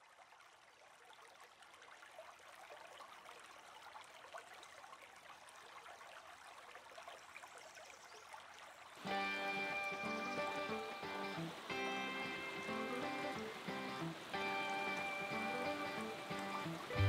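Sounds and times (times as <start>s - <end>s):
stream running water: 0.0s - 17.0s.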